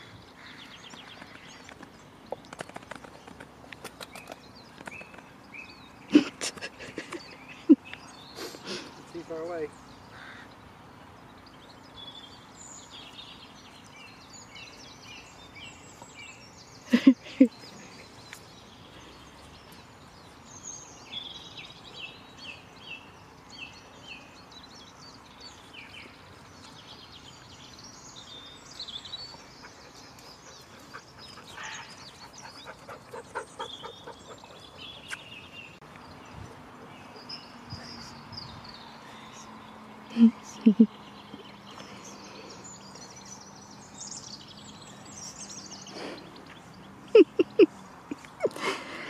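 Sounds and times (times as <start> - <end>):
loud bird calls: 0.0 - 49.0
small birds chirping and singing: 0.0 - 49.0.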